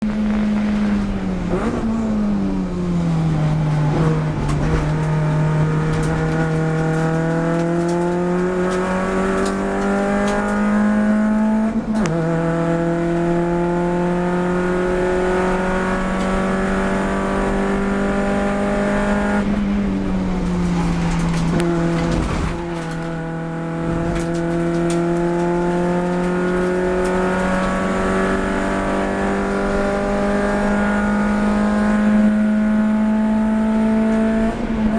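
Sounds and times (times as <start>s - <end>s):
race car engine full throttle: 0.0s - 34.9s.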